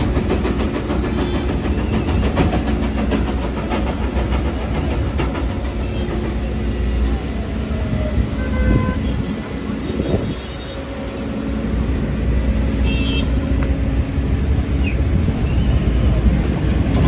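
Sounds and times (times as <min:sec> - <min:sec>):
excavator diesel engine droning: 0:00.0 - 0:17.0.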